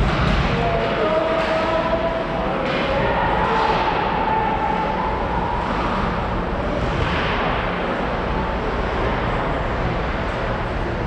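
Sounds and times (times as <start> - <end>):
ice hockey arena rumbling hum: 0.0 - 11.0.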